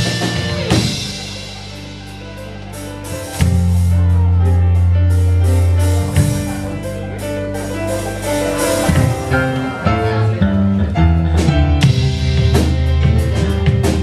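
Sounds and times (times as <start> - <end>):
drum kit with cymbals: 0.0 - 14.0
electric bass: 0.0 - 14.0
electric guitar: 0.0 - 14.0.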